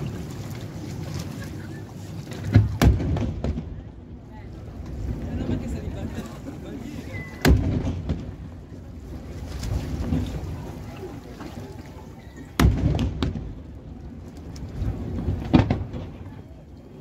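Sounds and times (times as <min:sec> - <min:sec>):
deep rolling rumble: 0:00.0 - 0:17.0.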